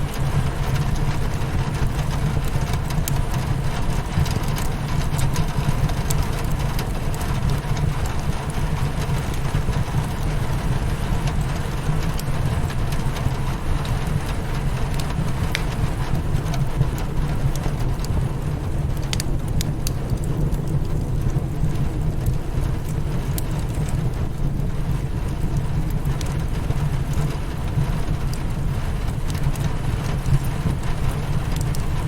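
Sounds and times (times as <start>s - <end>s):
rain beating on a window: 0.0s - 32.0s
wood fire crackling: 0.0s - 32.0s.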